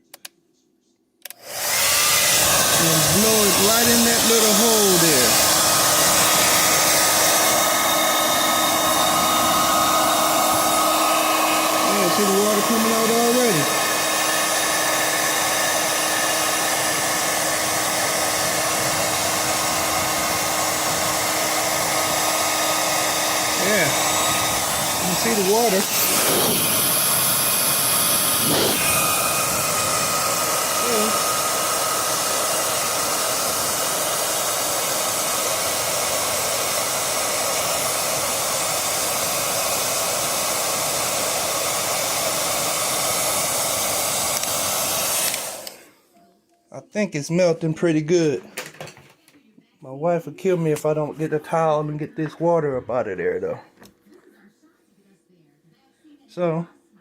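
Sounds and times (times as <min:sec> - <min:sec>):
hair dryer humming: 0:01.2 - 0:46.1, 0:50.4 - 0:53.6.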